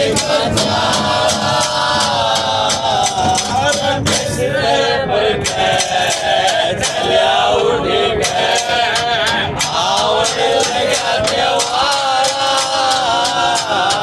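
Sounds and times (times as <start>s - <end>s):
sharp percussive beats: 0.0s - 4.5s, 5.4s - 7.2s, 8.2s - 14.0s
men singing: 0.0s - 14.0s.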